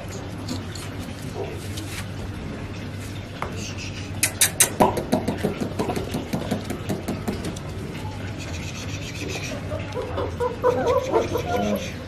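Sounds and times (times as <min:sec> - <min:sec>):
puppies licking food: 0:00.0 - 0:12.0.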